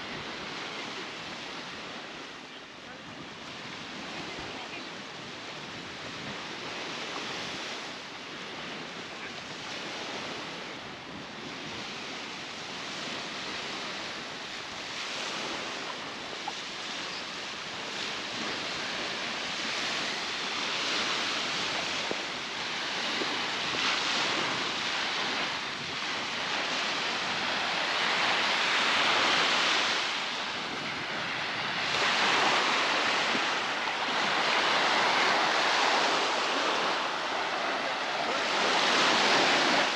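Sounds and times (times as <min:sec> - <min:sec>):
surf breaking on sandy beach: 0:03.0 - 0:39.9.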